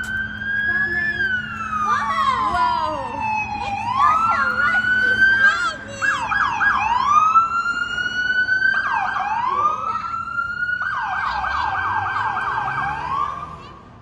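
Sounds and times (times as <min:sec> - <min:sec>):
electronic siren wailing and yelping: 0:00.2 - 0:13.8.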